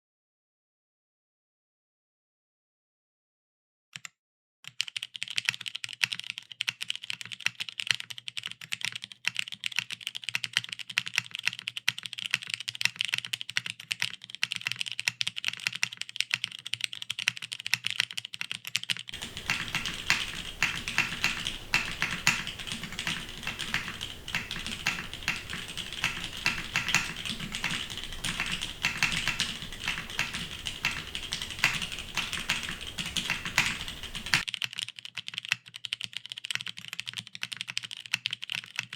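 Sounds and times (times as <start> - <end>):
fast typing on mechanical keyboard: 4.7 - 38.9.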